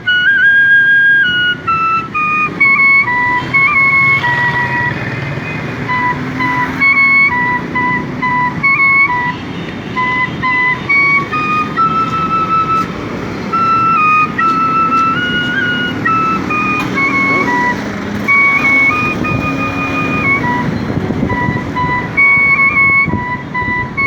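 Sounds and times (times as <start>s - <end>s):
bamboo flute melody: 0.0s - 24.0s
street traffic rumble: 0.0s - 24.0s.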